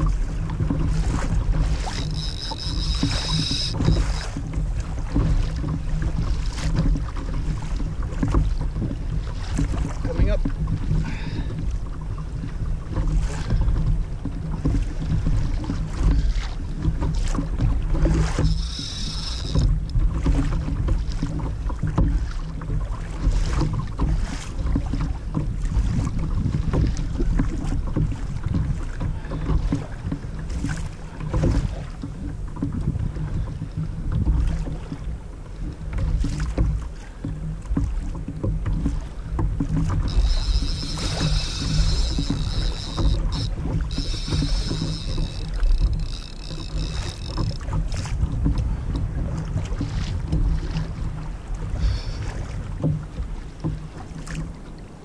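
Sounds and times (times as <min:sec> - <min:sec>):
water slapping against hull: 0:00.0 - 0:55.0
wind buffeting microphone: 0:00.0 - 0:55.0.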